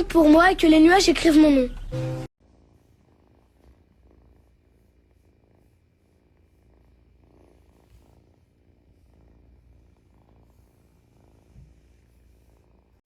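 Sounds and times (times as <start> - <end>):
cat purring: 2.4 - 13.0.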